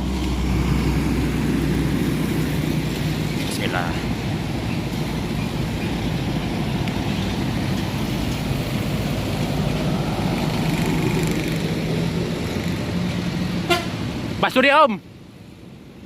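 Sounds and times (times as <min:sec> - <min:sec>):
bus engine: 0:00.0 - 0:16.0
road traffic rumble: 0:00.0 - 0:16.0.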